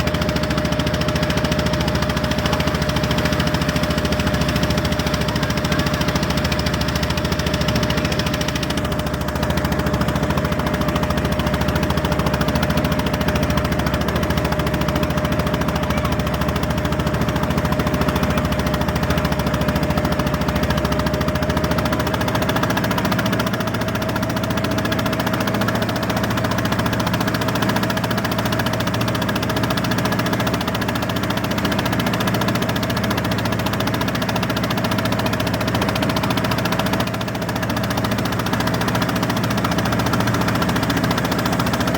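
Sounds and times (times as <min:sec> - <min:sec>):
boat engine knocking chug: 0:00.0 - 0:41.9.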